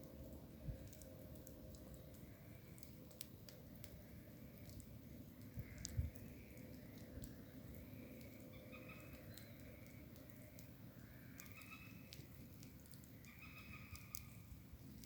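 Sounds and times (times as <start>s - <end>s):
faint bonfire crackling: 0.0s - 15.0s.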